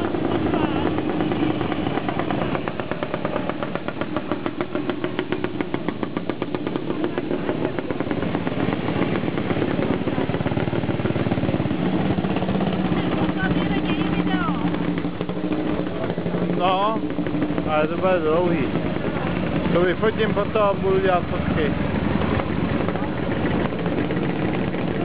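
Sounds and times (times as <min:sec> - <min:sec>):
hum of other engines: 0:00.0 - 0:25.0
motorcycles passing slowly: 0:00.0 - 0:25.0.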